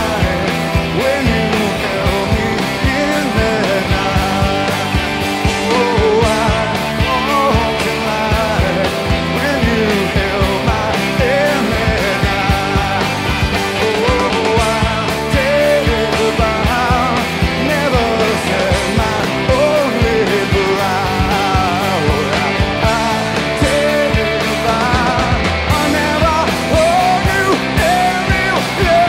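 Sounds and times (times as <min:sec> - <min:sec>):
bass guitar: 0:00.0 - 0:29.0
drums: 0:00.0 - 0:29.0
electric guitars: 0:00.0 - 0:29.0
man singing: 0:00.0 - 0:29.0.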